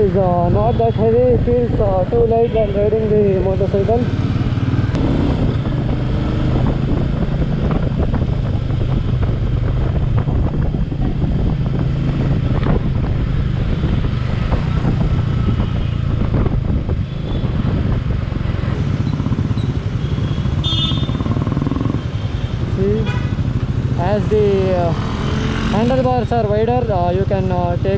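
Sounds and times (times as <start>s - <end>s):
motorcycle engine cruising: 0.0s - 27.9s.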